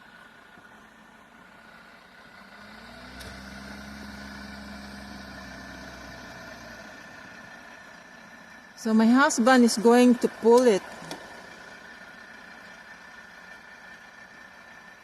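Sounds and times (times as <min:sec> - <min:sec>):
heavy vehicle engine revving: 0:00.8 - 0:15.0.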